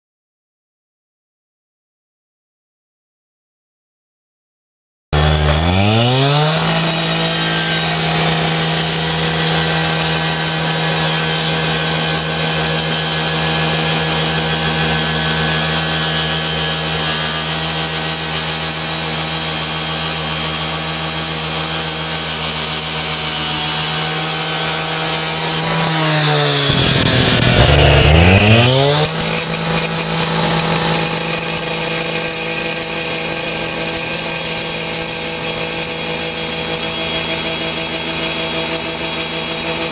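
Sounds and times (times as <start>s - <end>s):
rescue saw cutting metal: 5.2s - 39.9s.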